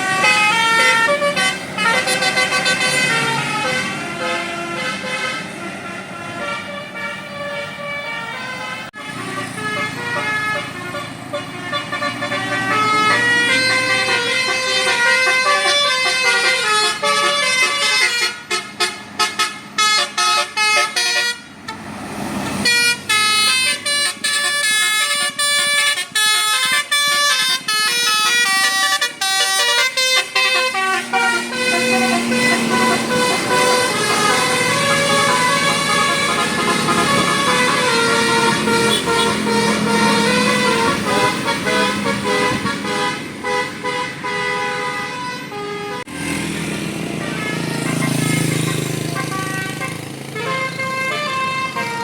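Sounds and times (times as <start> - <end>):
multi-tone bus horn melody: 0.0 - 21.9, 22.5 - 52.0.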